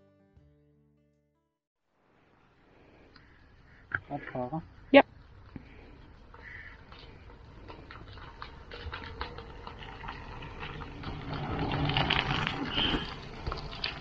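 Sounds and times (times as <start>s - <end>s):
bicycle tyres crunching on gravel: 2.1s - 14.0s.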